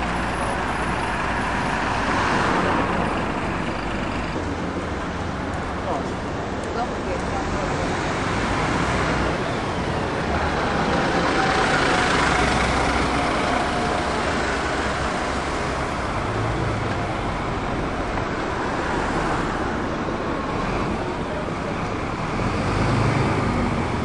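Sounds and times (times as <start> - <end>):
heavy vehicle engine rumble: 0.0 - 24.0
street traffic: 0.0 - 24.0
tyre and road noise: 0.0 - 24.0.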